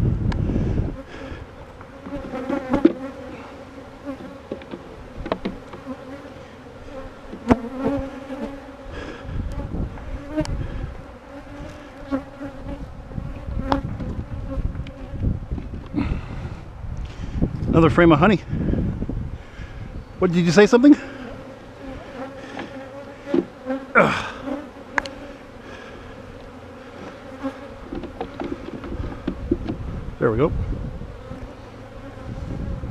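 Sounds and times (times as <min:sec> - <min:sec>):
honeybees buzzing: 0:00.0 - 0:32.9.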